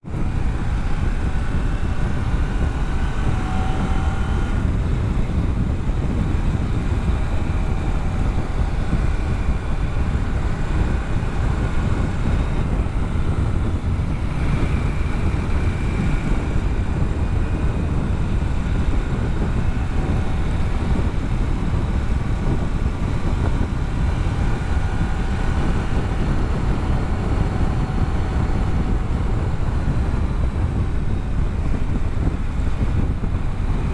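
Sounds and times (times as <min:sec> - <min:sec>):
motorcycle engine: 0:00.0 - 0:33.9
wind rumble on microphone: 0:00.0 - 0:33.9.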